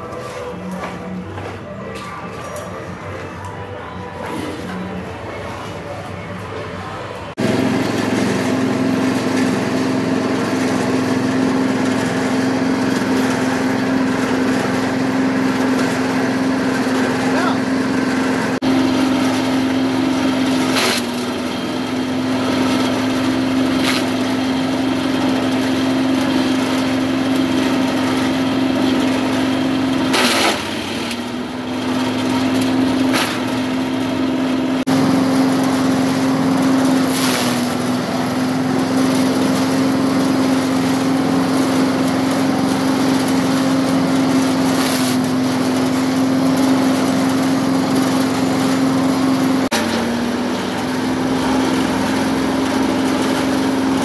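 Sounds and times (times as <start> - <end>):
small gasoline engine running: 7.3 - 54.0.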